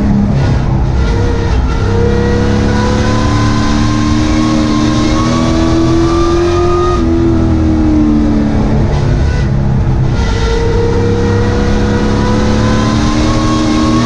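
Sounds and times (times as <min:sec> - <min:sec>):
racing engine revving: 0:00.0 - 0:14.0
wind and road noise: 0:00.0 - 0:14.0.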